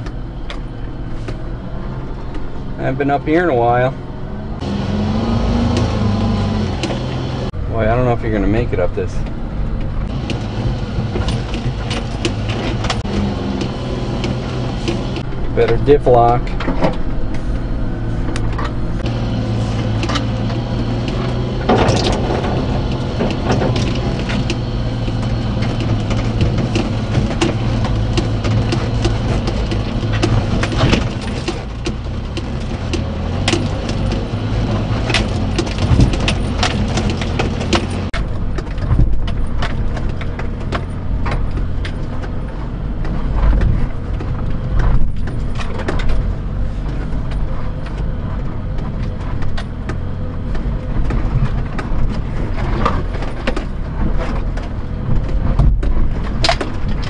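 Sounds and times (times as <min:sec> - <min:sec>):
truck engine running under load: 0:00.0 - 0:57.0
knocks and rattles: 0:08.6 - 0:57.0.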